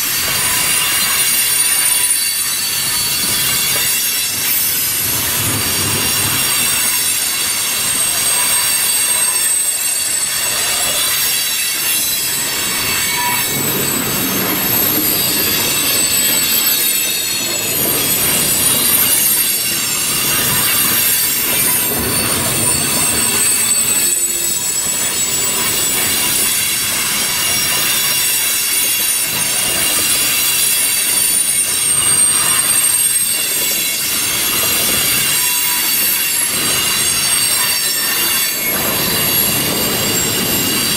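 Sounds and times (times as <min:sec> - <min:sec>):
freight train wheels rumbling: 0:00.0 - 0:40.9
train wheels squealing: 0:00.0 - 0:40.9.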